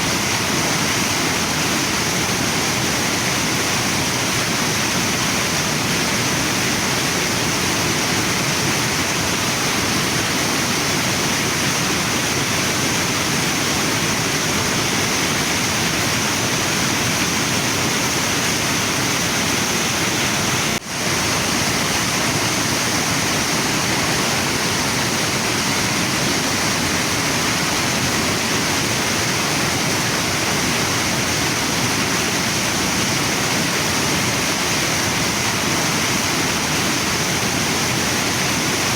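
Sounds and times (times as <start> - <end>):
river running: 0.0 - 38.9
waterfall: 0.0 - 38.9.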